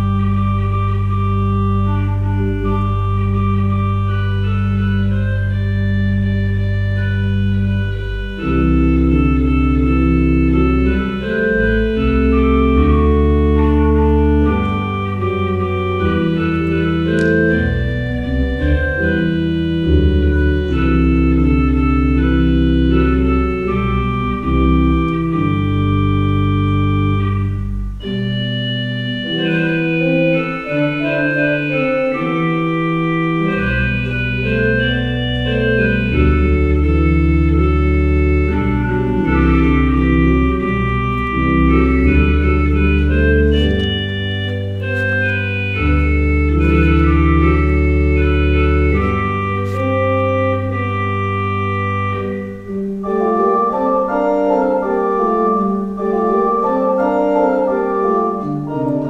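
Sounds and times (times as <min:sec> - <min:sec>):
organ pedal bass: 0:00.0 - 0:59.0
pipe organ chords: 0:00.0 - 0:59.0.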